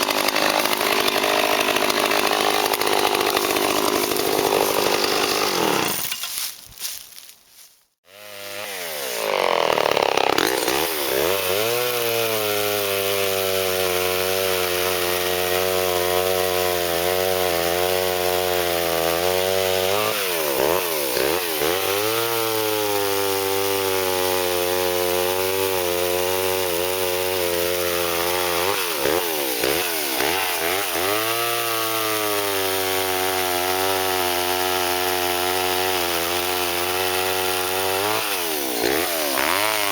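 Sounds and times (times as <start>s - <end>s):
chainsaw cutting wood: 0.0s - 7.0s, 8.0s - 39.9s.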